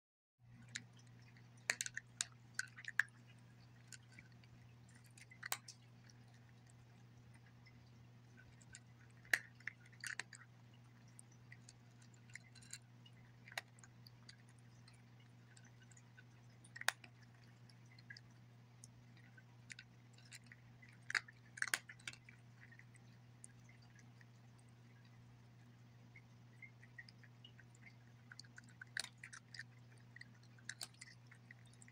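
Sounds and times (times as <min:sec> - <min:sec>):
faint low hum: 0:00.4 - 0:31.9
cat crunching dry kibble: 0:00.5 - 0:25.8, 0:26.4 - 0:31.9.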